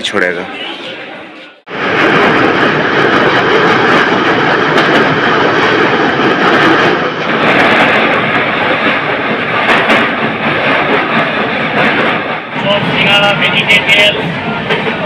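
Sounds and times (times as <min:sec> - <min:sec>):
train rumbling over bridge: 0:00.0 - 0:15.0.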